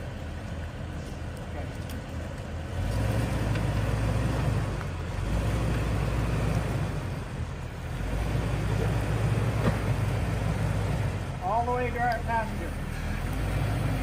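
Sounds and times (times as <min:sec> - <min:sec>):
engine revving at crawling speed: 0:00.0 - 0:14.0.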